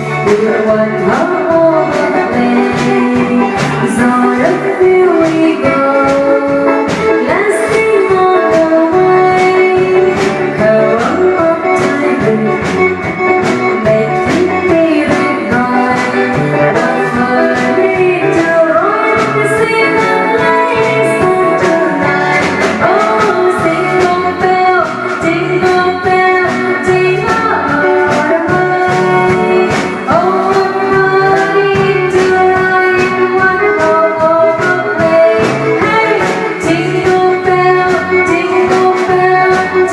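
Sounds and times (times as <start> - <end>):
live band playing: 0.0 - 39.9
person singing: 0.0 - 39.9
steady drum beat: 0.0 - 39.9.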